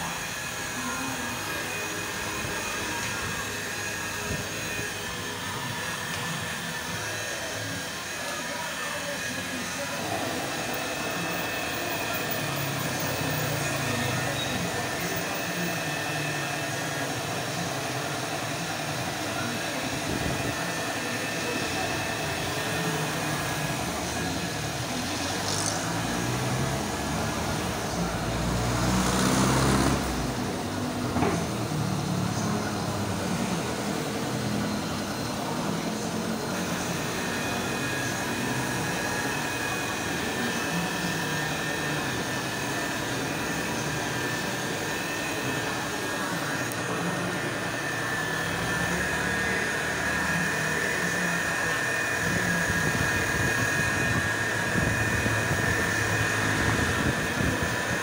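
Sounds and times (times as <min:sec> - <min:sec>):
rotary polisher motor whine: 0:00.0 - 0:58.0.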